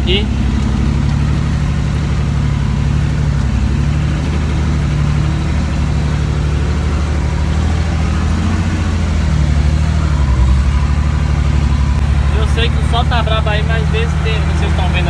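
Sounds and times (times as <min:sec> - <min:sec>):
truck diesel engine rumbling: 0:00.0 - 0:15.0.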